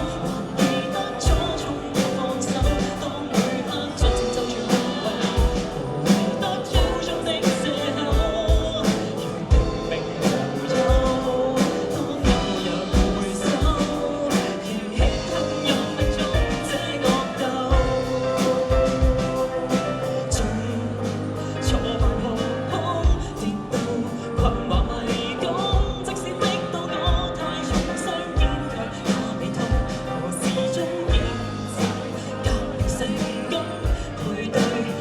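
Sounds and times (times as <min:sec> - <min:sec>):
live band playing pop-rock: 0:00.0 - 0:35.0
steady drum beat: 0:00.0 - 0:35.0.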